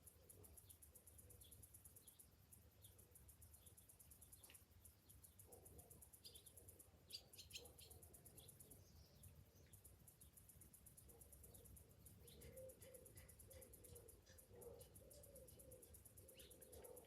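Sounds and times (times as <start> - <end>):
cicadas pulsing: 0.0 - 17.0
birds chirping: 0.5 - 17.0.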